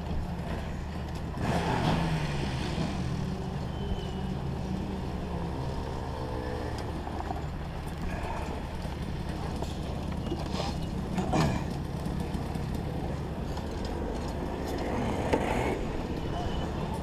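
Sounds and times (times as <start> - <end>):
kart engines idling: 0.0 - 17.0.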